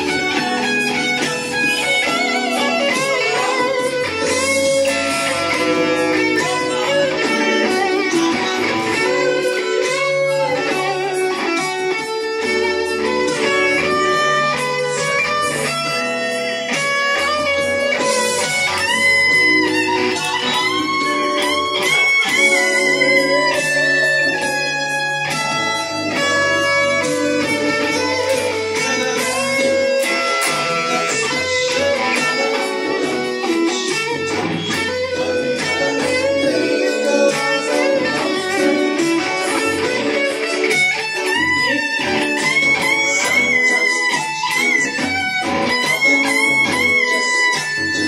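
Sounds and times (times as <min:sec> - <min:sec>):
electric guitar tune: 0:00.0 - 0:48.0.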